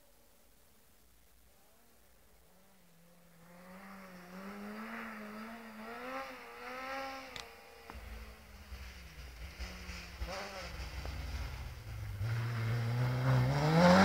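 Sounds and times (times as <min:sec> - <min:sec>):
buggy engine revving: 0:02.6 - 0:14.0.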